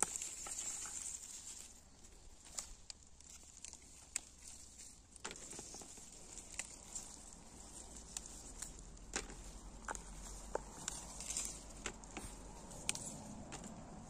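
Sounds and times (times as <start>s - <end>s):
rustling of garden plants: 0.0s - 14.0s.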